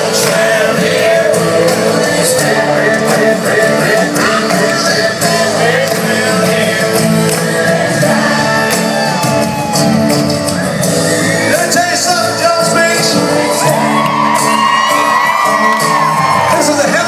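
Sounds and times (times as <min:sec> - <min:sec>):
country band over sound system: 0:00.0 - 0:17.0
crowd shouting and singing: 0:00.0 - 0:17.0.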